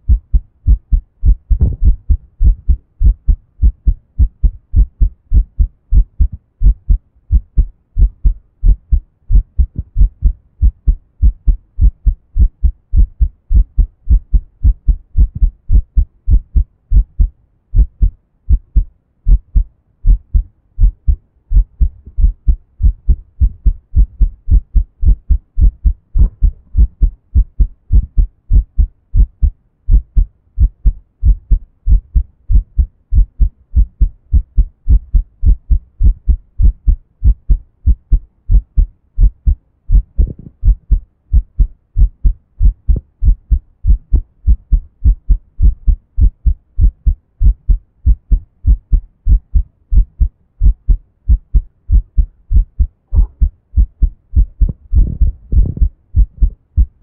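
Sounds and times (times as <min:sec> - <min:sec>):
heartbeat thumps: 0:00.0 - 0:57.0.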